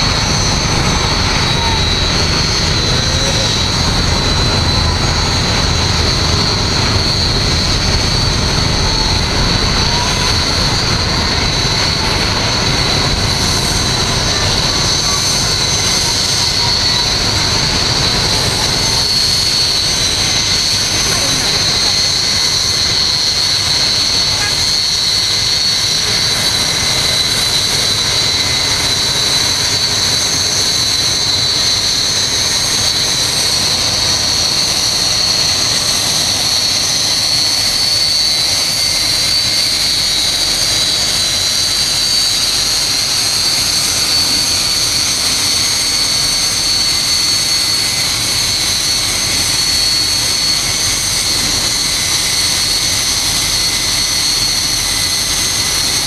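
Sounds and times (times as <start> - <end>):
jet engines with high whine: 0.0 - 56.0.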